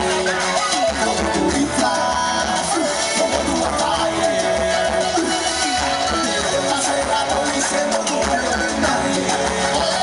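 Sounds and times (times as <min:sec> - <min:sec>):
latin dance music with singing: 0:00.0 - 0:10.0.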